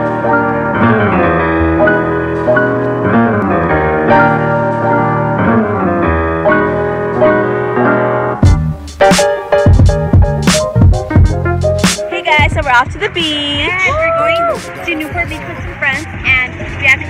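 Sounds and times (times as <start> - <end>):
piano tune: 0.0 - 16.7.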